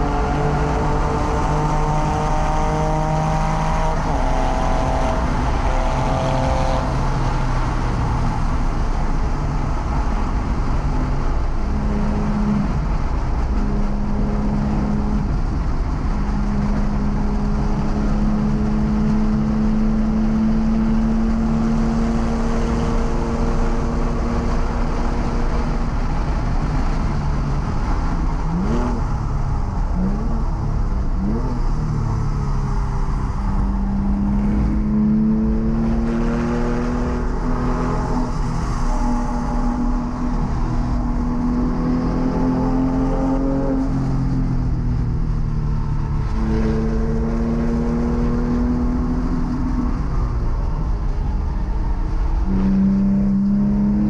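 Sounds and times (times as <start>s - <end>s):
car engine running hard: 0.0s - 54.0s
wind and tyre noise: 0.0s - 54.0s.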